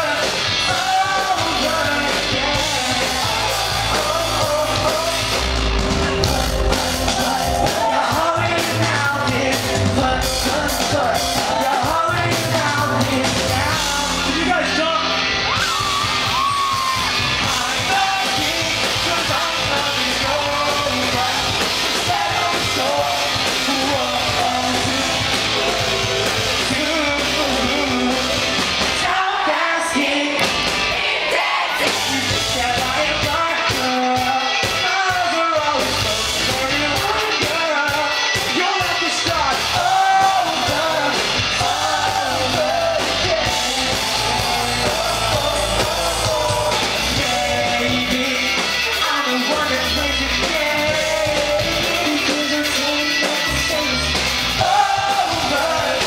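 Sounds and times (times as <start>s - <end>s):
lead singing: 0.0s - 56.0s
live pop-rock band: 0.0s - 56.0s.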